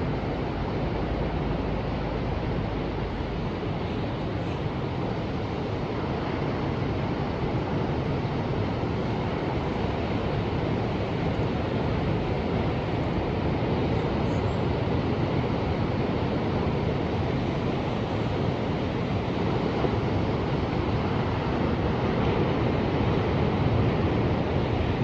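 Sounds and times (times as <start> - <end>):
ocean surf washing: 0.0 - 25.0.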